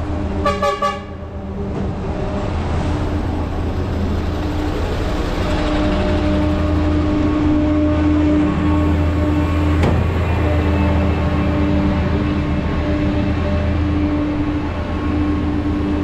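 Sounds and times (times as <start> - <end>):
low traffic rumble: 0.0 - 16.0
vehicle engine hum: 0.0 - 16.0.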